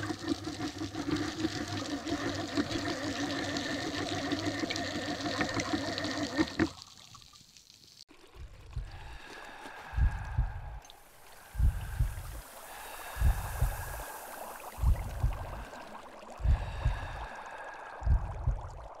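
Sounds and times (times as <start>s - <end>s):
bubbling gurgling water: 0.0s - 19.0s.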